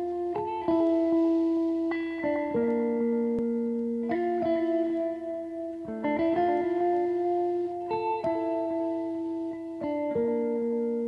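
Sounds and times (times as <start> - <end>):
background music chords: 0.0 - 11.0.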